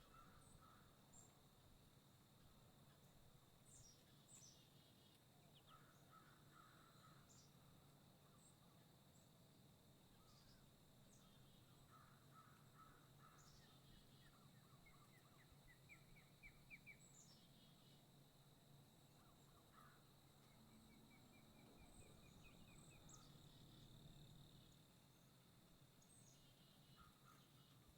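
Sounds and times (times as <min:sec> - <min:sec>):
faint birdsong chirps: 0:00.0 - 0:27.9.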